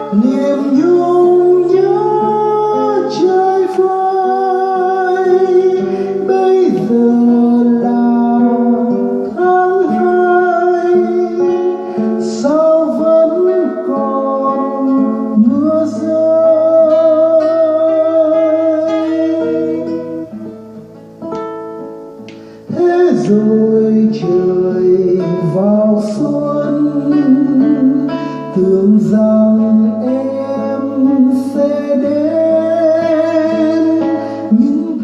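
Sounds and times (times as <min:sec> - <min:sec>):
acoustic guitar ballad: 0:00.0 - 0:35.0.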